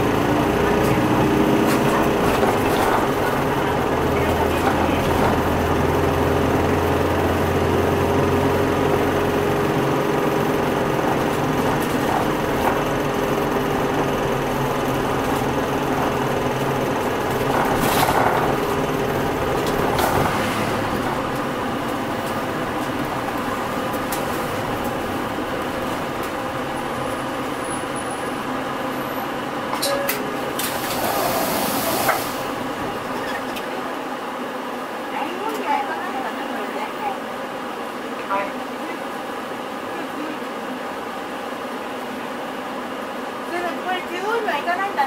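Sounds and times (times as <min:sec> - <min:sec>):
bus diesel engine and road noise: 0:00.0 - 0:45.0.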